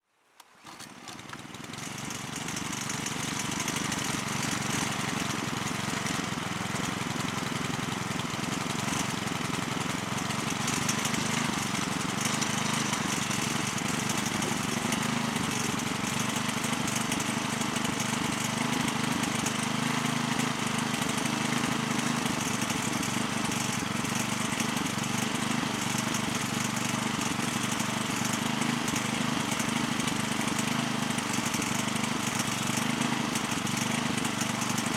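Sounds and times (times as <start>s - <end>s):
cultivator engine running: 0.4s - 34.9s.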